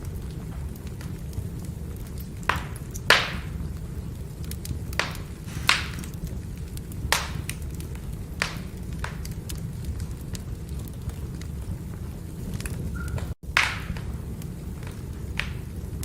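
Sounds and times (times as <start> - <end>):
firewood burning with crackling pops: 0.0 - 16.0.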